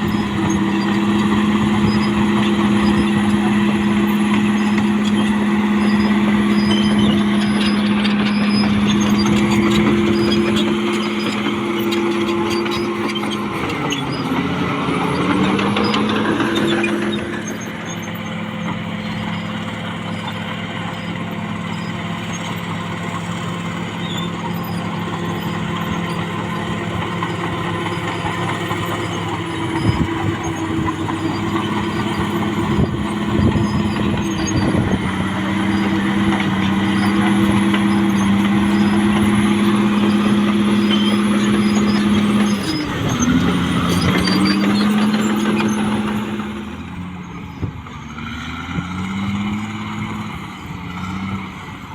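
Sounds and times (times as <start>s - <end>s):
bulldozer diesel engine under load: 0.0s - 51.9s.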